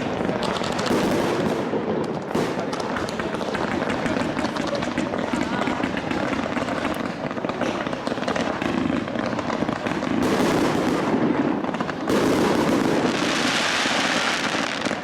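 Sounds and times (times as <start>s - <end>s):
firework hiss: 0.0s - 15.0s
fireworks crackling and popping: 0.0s - 15.0s.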